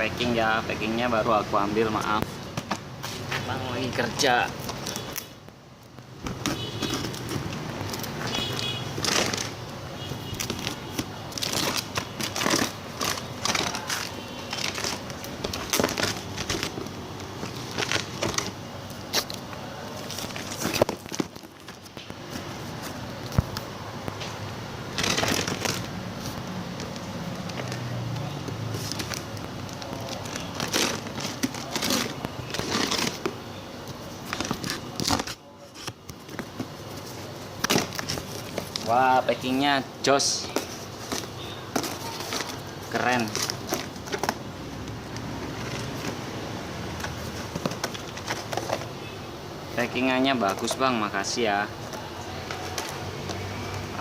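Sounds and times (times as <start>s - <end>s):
packaging crinkling and rustling: 1.8s - 39.6s, 40.2s - 49.1s, 49.8s - 54.0s.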